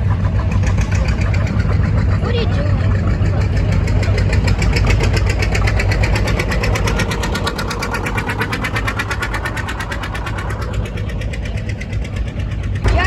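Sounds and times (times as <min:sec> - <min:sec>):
tractor engine pulsing loudly: 0:00.0 - 0:13.0.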